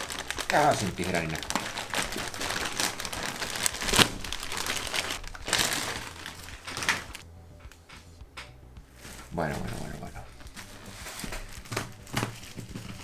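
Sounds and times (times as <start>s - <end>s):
plastic bag crinkling: 0.0s - 7.2s, 9.0s - 13.0s.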